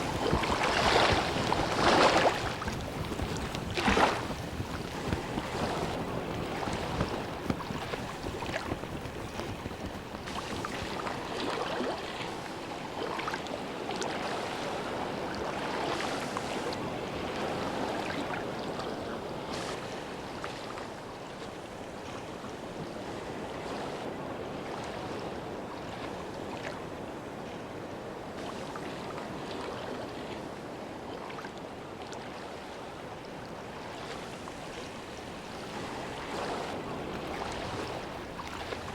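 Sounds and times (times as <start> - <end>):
small waves washing and splashing: 0.0 - 38.9.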